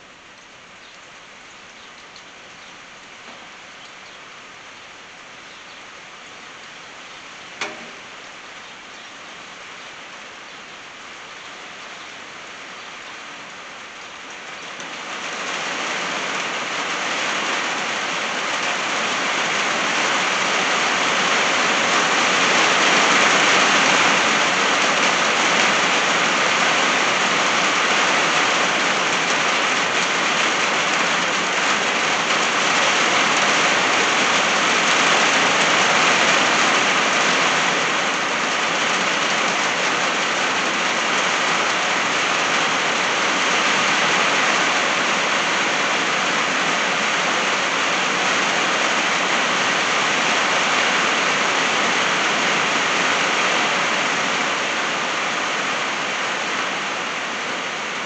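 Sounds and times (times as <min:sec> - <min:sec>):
rain drumming on a tin roof: 0:00.0 - 0:58.0.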